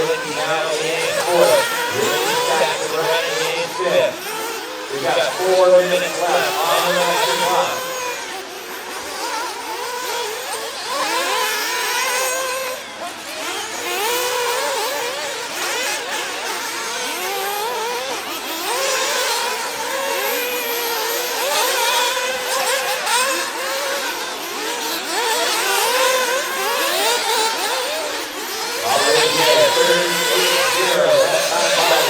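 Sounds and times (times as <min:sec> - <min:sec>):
rc car engines revving: 0:00.0 - 0:32.0.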